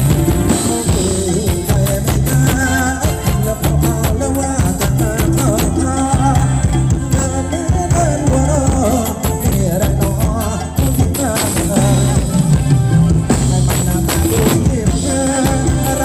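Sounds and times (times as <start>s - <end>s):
bass and drum beat: 0.0s - 16.0s.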